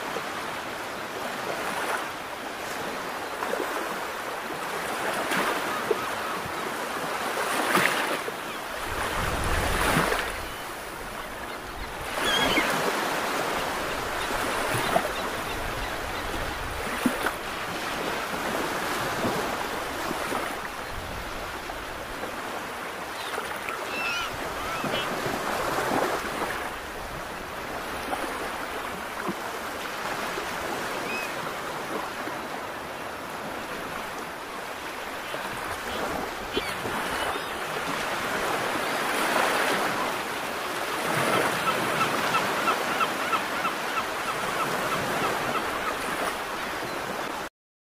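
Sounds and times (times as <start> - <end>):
sea waves washing in: 0.0 - 47.5.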